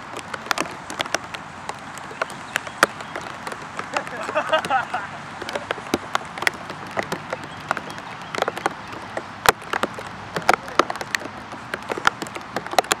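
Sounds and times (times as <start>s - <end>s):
rain falling: 0.0s - 13.0s
raindrop taps: 0.0s - 13.0s.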